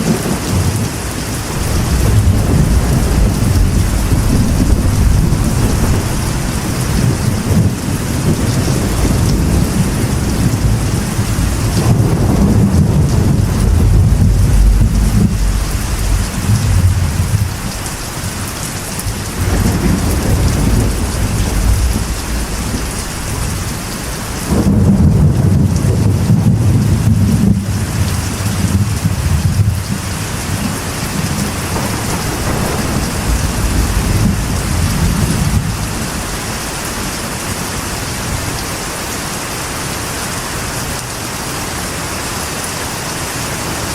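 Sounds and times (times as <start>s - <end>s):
thunder rumbling: 0.0s - 38.6s
heavy rain on a metal roof: 0.0s - 43.9s.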